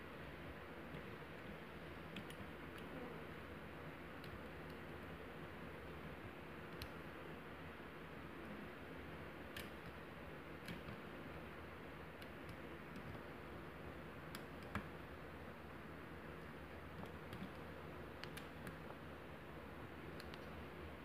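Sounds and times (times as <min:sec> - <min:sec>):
low hiss and hum: 0:00.0 - 0:21.0.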